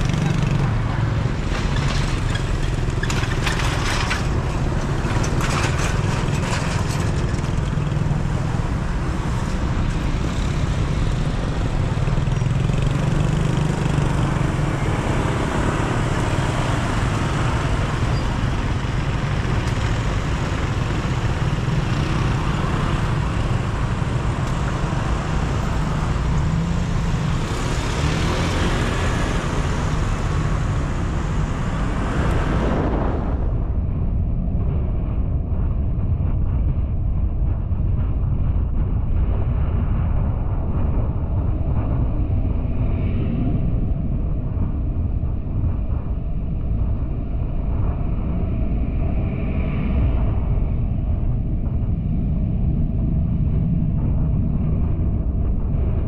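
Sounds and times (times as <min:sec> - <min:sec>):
car engine and tyre hum: 0:00.0 - 0:56.0.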